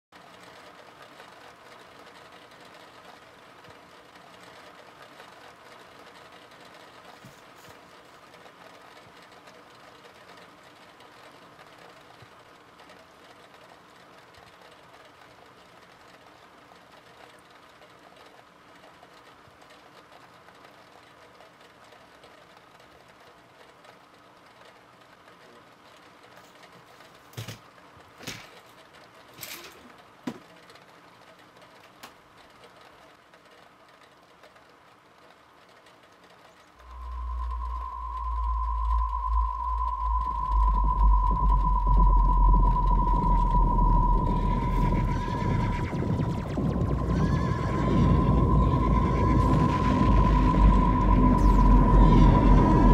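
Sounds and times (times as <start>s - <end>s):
faint mechanical whirring hum: 0.1s - 52.9s.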